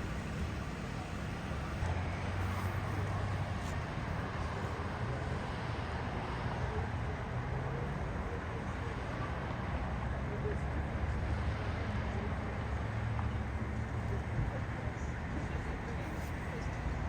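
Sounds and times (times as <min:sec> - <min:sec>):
traffic engines humming: 0:00.0 - 0:17.0.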